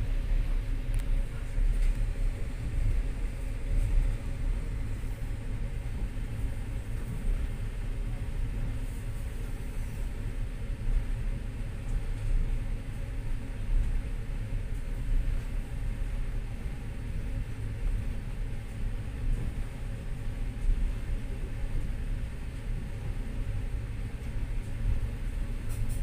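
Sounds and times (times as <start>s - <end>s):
train running inside carriage: 0.0s - 26.0s.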